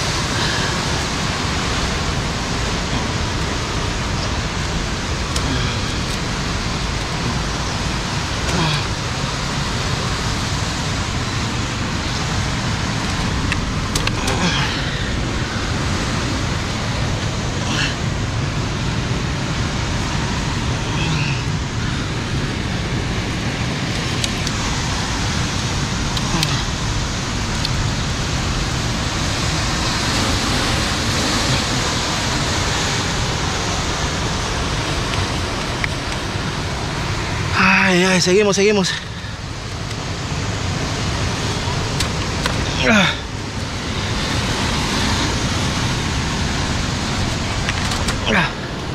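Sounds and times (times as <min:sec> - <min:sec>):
sea surf: 0:00.0 - 0:48.9
wind: 0:00.0 - 0:48.9.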